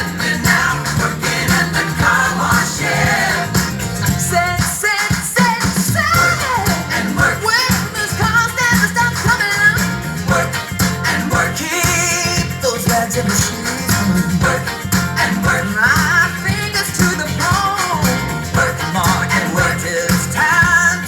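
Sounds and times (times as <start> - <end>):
funk-pop music with singing: 0.0 - 21.0.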